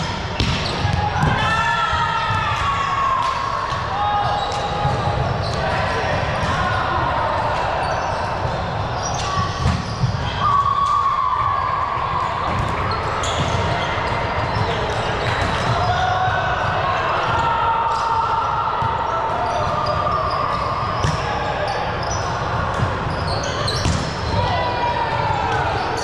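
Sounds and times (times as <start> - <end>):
players' voices: 0.0 - 26.0.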